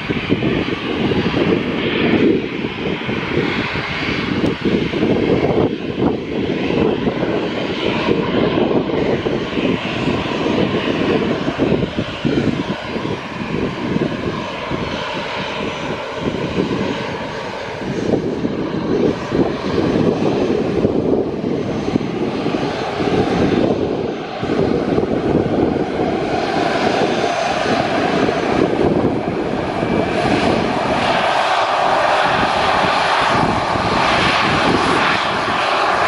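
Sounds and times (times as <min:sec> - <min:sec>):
airliner engines running: 0:00.0 - 0:36.0
wind buffeting microphone: 0:00.0 - 0:36.0.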